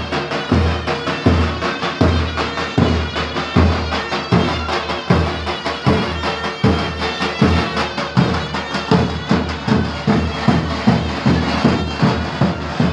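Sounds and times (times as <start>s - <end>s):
shrill reed pipe melody: 0.0s - 12.9s.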